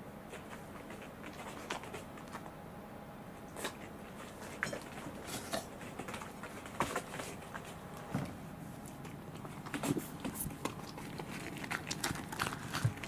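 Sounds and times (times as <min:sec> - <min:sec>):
dog biting into cake: 0:00.3 - 0:02.5, 0:03.5 - 0:07.8, 0:09.1 - 0:13.0.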